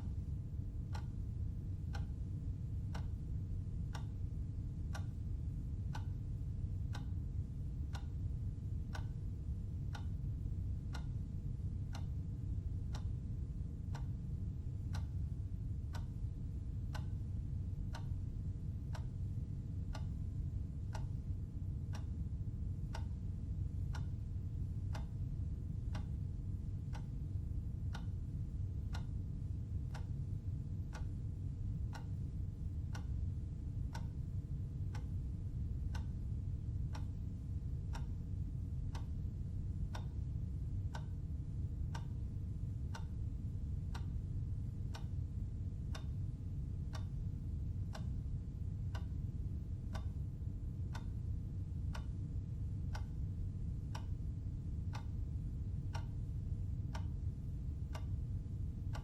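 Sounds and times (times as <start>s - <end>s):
clock ticking: 0.0s - 9.2s, 9.8s - 48.2s, 48.8s - 54.2s, 54.9s - 59.0s
steady low hum: 0.0s - 59.0s.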